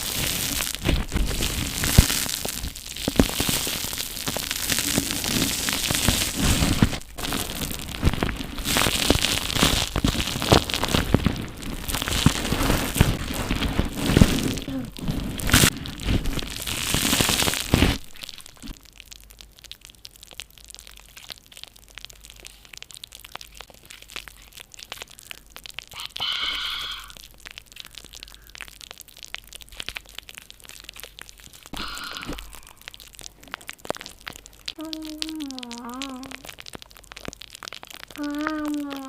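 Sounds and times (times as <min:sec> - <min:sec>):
foam crackling and crunching: 0:00.0 - 0:39.0.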